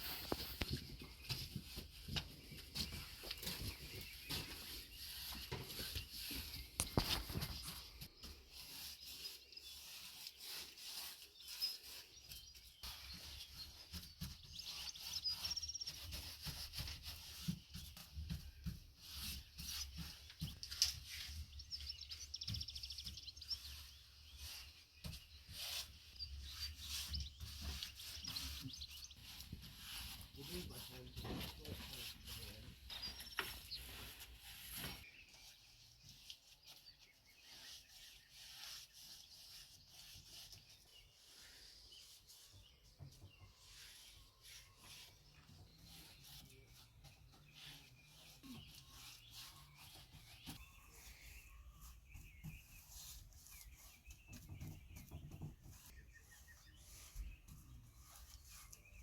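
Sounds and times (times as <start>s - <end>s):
birds chirping faintly: 0.0s - 59.0s
outdoor background noise: 0.0s - 59.0s.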